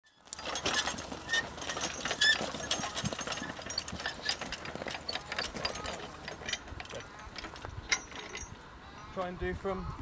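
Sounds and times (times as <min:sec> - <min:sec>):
plow and harness clinking: 0:00.0 - 0:08.7.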